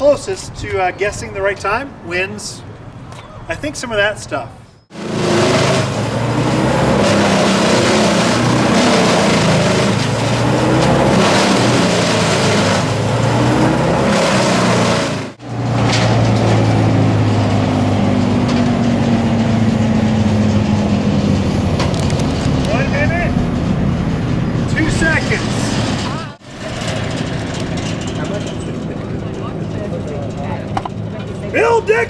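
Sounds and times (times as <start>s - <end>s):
loud grinding and shredding: 4.9s - 30.7s
wood chipper engine drone: 4.9s - 31.8s.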